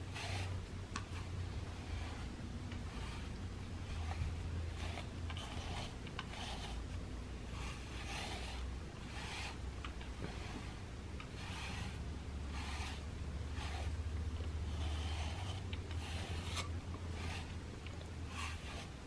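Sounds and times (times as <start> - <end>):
brush raking through fur: 0.0 - 6.9, 7.5 - 17.6, 18.2 - 19.0.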